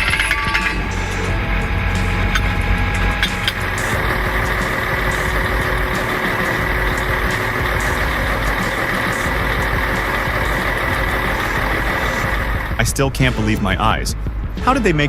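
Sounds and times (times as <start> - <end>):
heavy vehicle engine running: 0.0 - 14.9.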